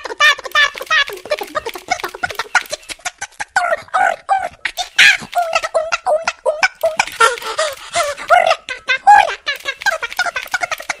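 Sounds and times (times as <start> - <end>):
fast clicking beat: 0.0 - 3.4, 4.7 - 8.6, 9.5 - 11.0
chopped high-pitched vocal sounds: 0.0 - 11.0.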